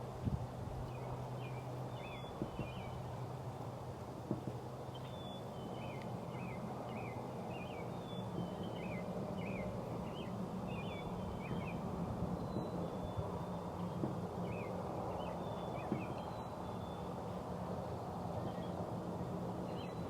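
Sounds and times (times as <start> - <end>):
steady low hum: 0.0 - 20.0
small birds chirping: 0.7 - 18.8.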